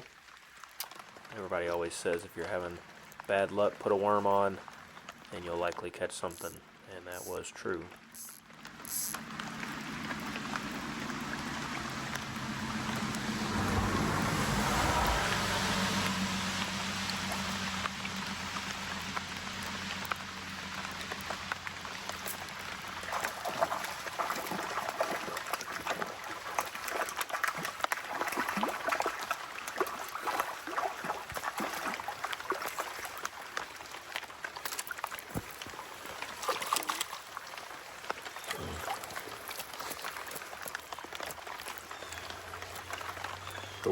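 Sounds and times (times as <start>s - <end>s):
creek water trickling and splashing: 0.0s - 43.9s.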